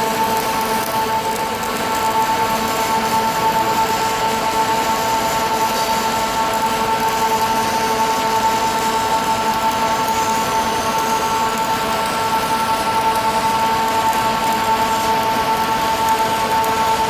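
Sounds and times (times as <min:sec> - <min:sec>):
arc welding hiss and whine: 0:00.0 - 0:17.0.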